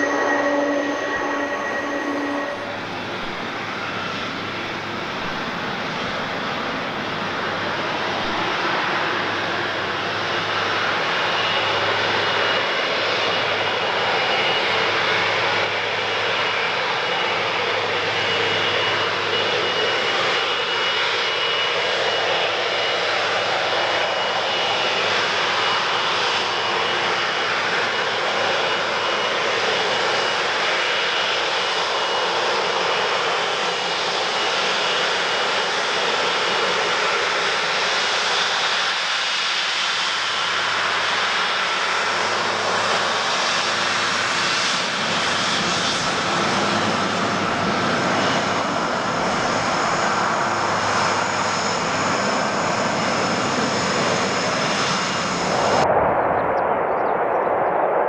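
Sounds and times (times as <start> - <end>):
jet engines rushing and whining: 0.0 - 58.0.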